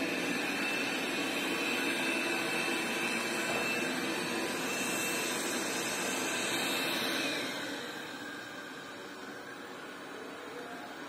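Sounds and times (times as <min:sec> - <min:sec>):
robot vacuum whirring: 0:00.0 - 0:10.2.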